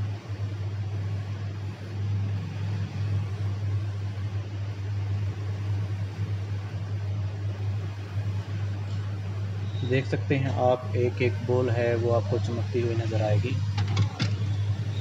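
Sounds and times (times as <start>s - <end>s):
hot-air station blowing air: 0.0s - 15.0s.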